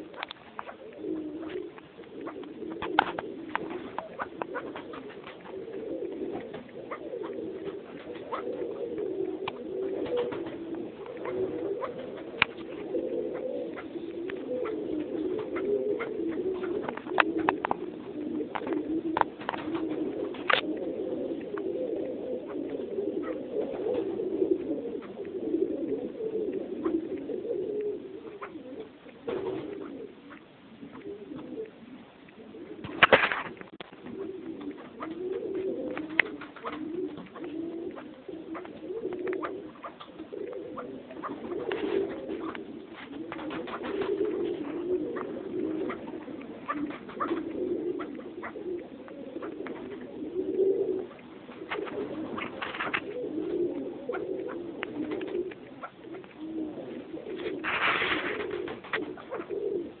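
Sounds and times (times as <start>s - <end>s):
partridges cooing: 0.0s - 60.0s.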